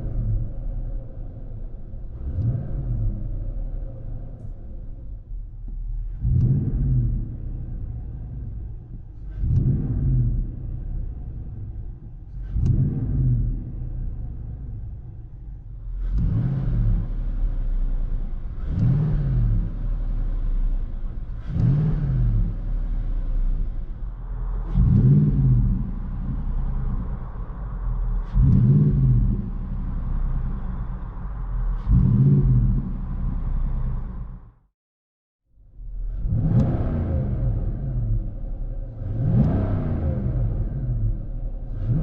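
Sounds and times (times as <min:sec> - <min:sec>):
engine idle rumble: 0:00.0 - 0:34.7, 0:35.5 - 0:42.0
engine throttle blips: 0:00.0 - 0:34.7, 0:35.5 - 0:42.0.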